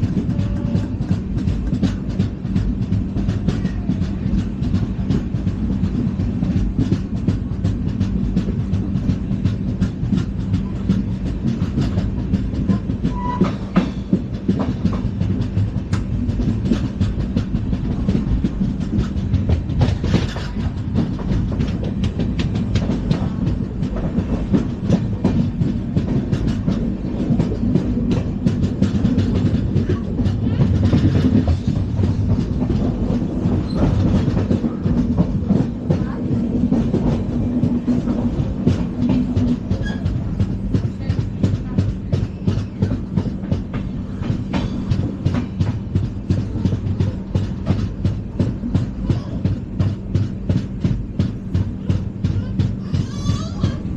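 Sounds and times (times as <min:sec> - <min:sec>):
train coaches rumbling and rattling: 0:00.0 - 0:53.9
wheels clicking over rail joints: 0:00.0 - 0:53.9.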